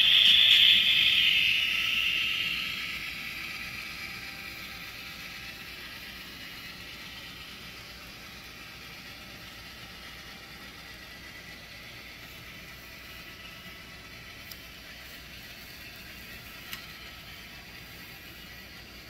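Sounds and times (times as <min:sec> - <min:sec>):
model train wheels clicking on rails: 0:00.0 - 0:19.0.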